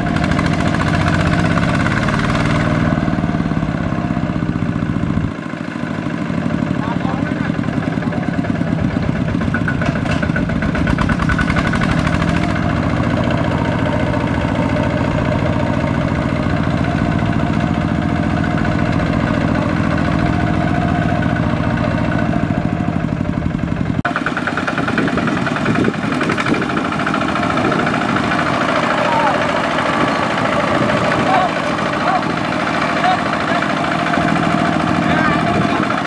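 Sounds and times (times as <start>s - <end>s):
diesel tractor engine chugging: 0.0s - 36.0s.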